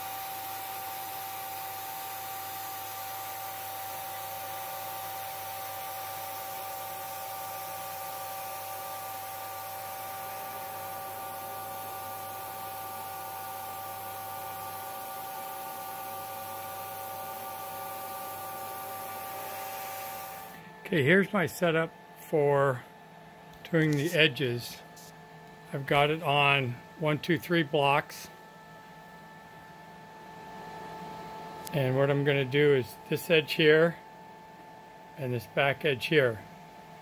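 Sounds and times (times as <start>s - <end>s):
milling machine whine: 0.0s - 37.0s.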